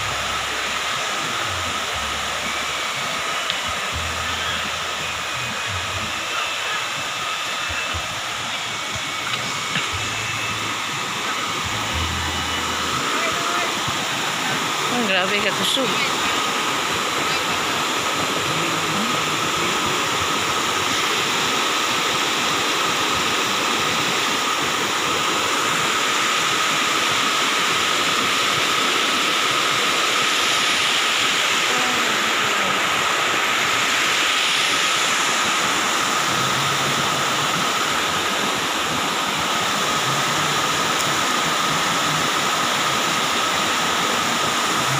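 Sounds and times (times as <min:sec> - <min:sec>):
waterfall rushing and splashing: 0:00.0 - 0:44.9.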